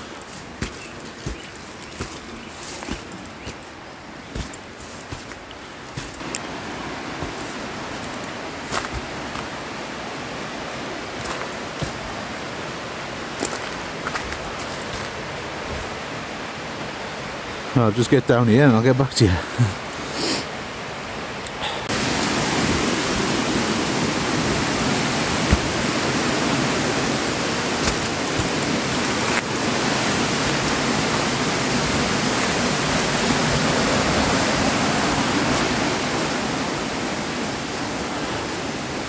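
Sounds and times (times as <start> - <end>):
stream and waterfalls rushing: 0.0 - 39.0.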